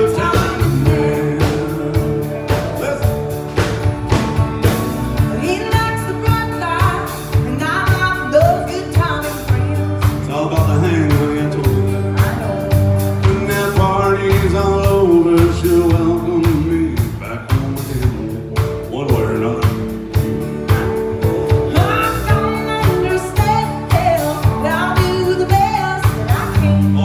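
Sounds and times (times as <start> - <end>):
country song with band: 0.0 - 27.0.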